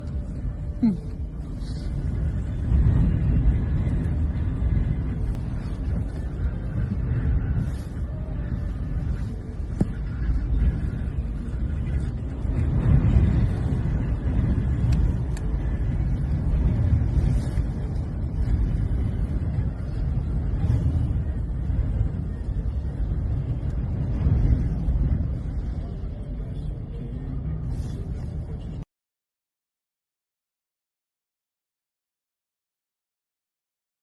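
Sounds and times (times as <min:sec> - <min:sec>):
wind buffeting microphone: 0:00.0 - 0:28.8.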